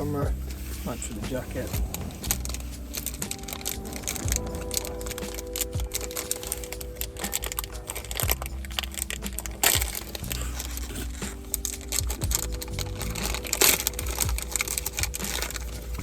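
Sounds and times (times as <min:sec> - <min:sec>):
crinkling handling noise: 0:00.0 - 0:16.0.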